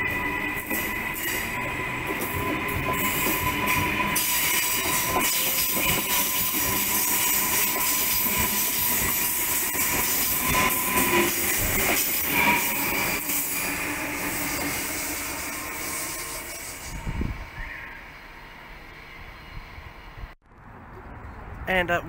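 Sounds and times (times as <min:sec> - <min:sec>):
train high whine: 0:00.0 - 0:20.4
train wheels rumbling on rails: 0:00.0 - 0:20.4.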